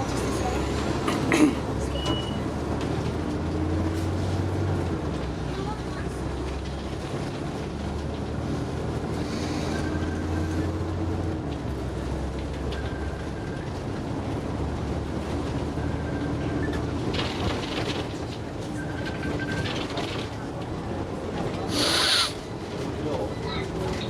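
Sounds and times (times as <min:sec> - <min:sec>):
bus engine with rising whine: 0:00.0 - 0:24.0.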